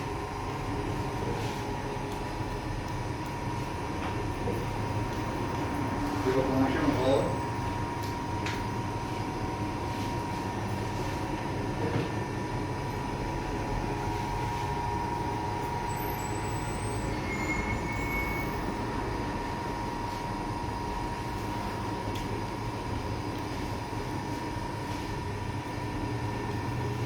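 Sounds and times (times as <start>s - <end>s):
bakery equipment rumbling: 0.0s - 27.0s.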